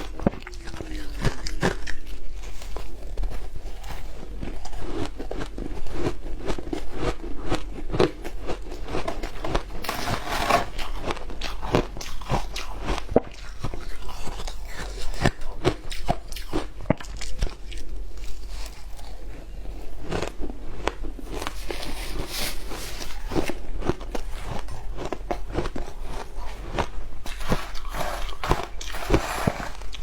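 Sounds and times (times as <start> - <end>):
ice crunching between teeth: 0.0 - 30.0.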